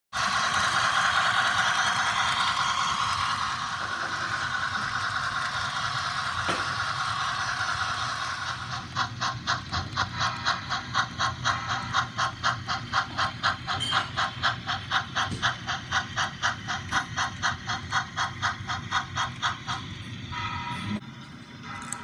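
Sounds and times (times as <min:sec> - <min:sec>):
model steam locomotive chuffing: 0:00.1 - 0:22.0
steady steam hiss: 0:00.2 - 0:21.0.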